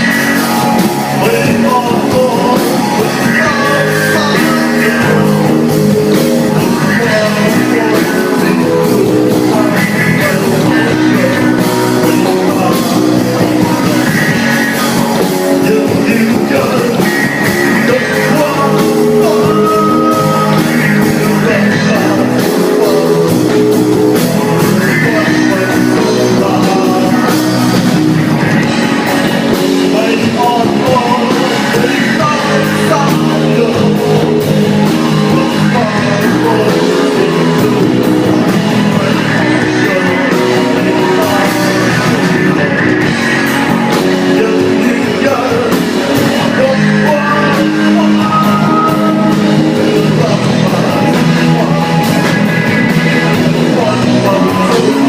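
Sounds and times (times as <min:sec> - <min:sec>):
electric guitars: 0:00.0 - 0:55.0
person singing: 0:00.0 - 0:55.0.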